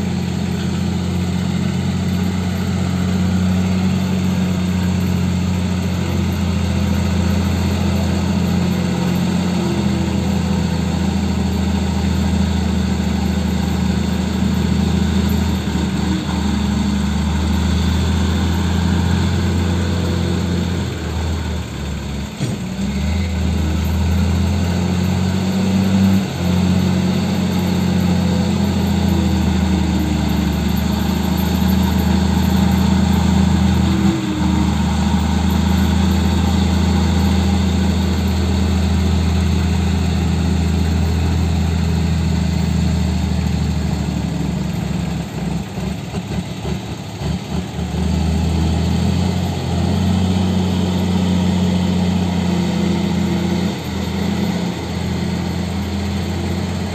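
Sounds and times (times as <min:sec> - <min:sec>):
heavy diesel engines droning: 0:00.0 - 0:56.9.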